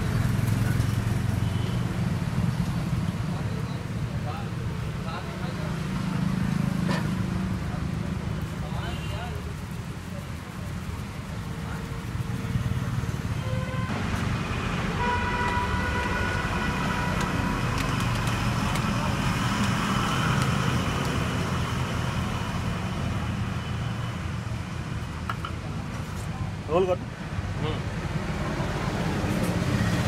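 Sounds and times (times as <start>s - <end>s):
road vehicles passing: 0.0s - 30.0s.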